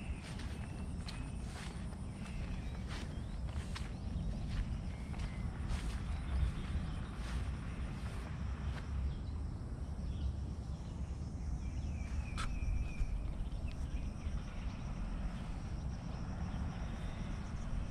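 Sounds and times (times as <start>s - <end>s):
wind rumble on microphone: 0.0s - 17.9s.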